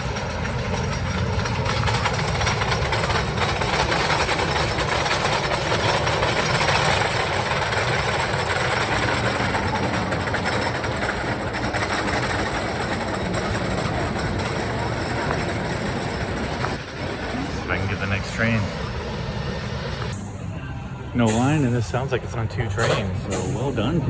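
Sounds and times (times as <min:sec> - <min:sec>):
roller coaster on wooden track: 0:00.0 - 0:20.2.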